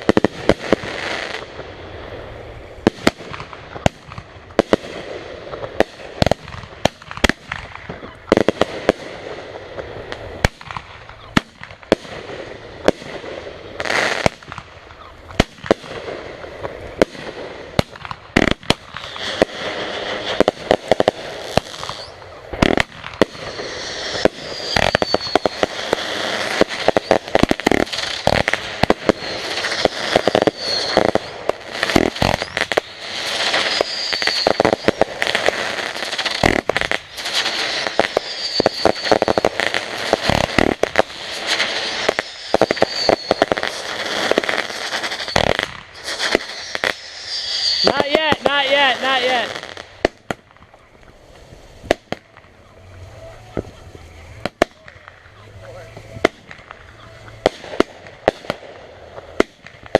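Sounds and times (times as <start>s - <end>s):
fireworks bangs and pops: 0.0s - 59.9s
fireworks crackling: 0.0s - 59.9s
high firework whistles: 0.0s - 59.9s.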